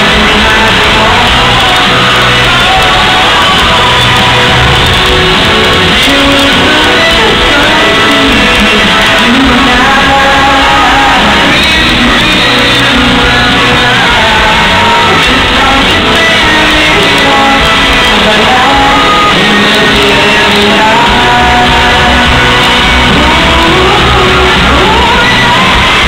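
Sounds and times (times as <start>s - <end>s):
crowd shouting: 0.0s - 26.0s
lead singer: 0.0s - 26.0s
rock band playing live: 0.0s - 26.0s.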